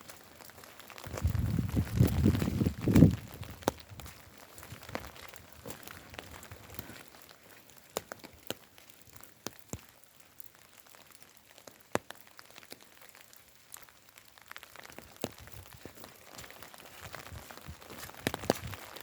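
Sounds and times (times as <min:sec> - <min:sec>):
faint steady rain hiss: 0:00.0 - 0:19.0
raindrops tapping: 0:00.0 - 0:19.0.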